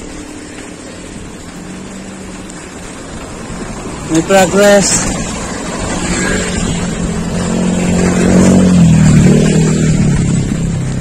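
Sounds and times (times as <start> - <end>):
motor vehicle passing by: 0.0 - 11.0.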